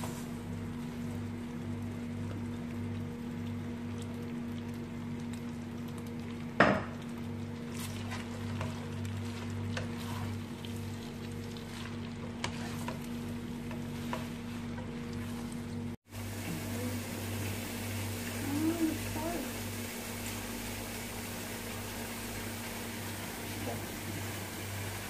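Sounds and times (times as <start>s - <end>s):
spaghetti sizzling in a frying pan: 0.0s - 25.0s.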